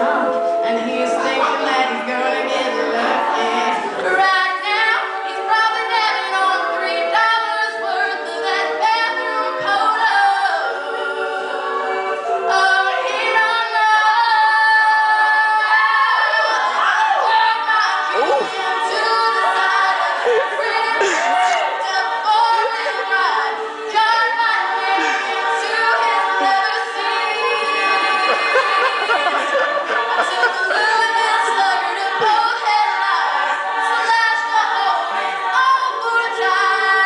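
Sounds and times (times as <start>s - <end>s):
women singing in harmony: 0.0s - 37.0s.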